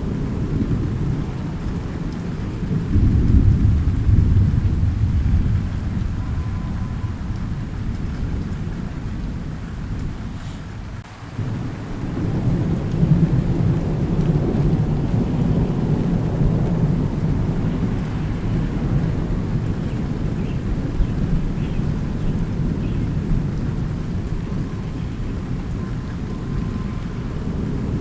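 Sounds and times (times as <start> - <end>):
steady rain: 0.0 - 28.0
thunder rumbling: 0.0 - 28.0.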